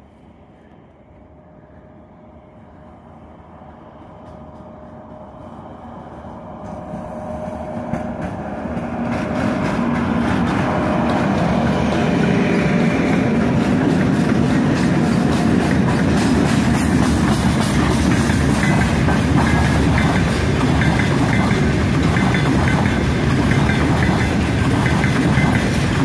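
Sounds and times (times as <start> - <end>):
electric locomotive hum: 0.0 - 26.0
train wheels rumbling on rail: 0.0 - 26.0.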